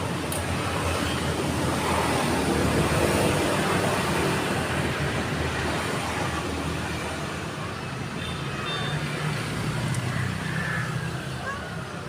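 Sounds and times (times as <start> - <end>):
vehicle engines humming: 0.0 - 12.0.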